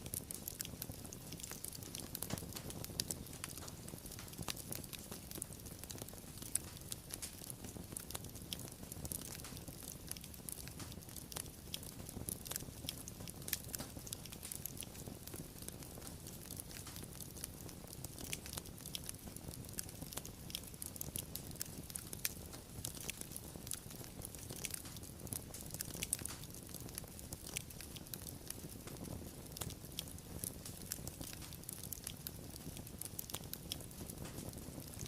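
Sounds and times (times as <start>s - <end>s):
fire crackling: 0.0s - 35.0s.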